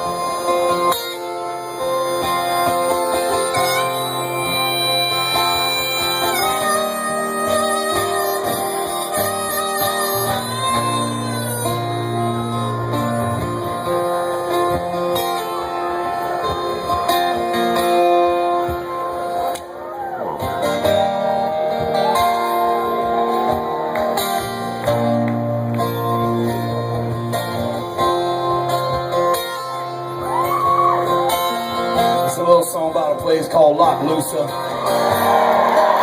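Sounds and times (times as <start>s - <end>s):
bending lead guitar line: 0.0s - 36.0s
live guitar band music: 0.0s - 36.0s.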